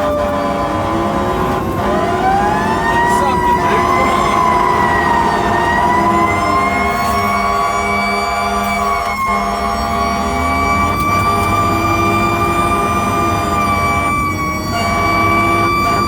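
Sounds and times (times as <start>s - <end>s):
mechanical siren wailing: 0.0s - 16.0s
truck engine running: 0.0s - 16.0s.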